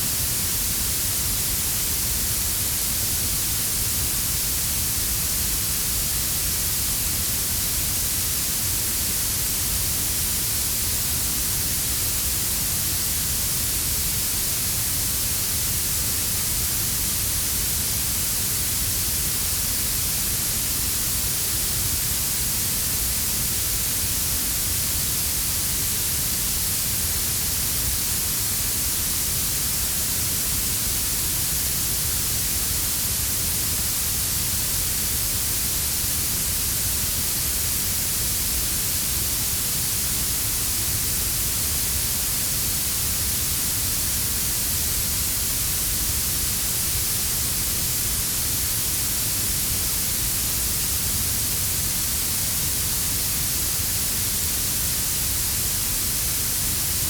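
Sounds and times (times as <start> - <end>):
blue noise hiss: 0.0 - 57.0.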